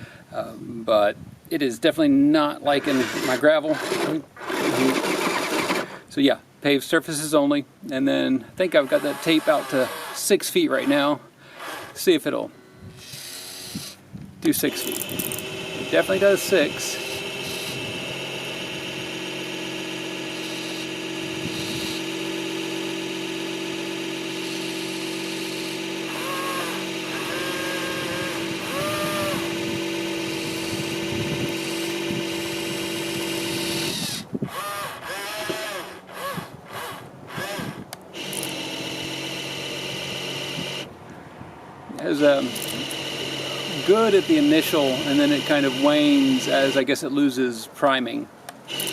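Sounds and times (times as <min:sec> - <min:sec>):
small electric water pump whining: 0:02.7 - 0:06.0, 0:08.7 - 0:12.0, 0:12.6 - 0:14.0, 0:14.7 - 0:40.9, 0:41.9 - 0:46.9, 0:48.7 - 0:48.9.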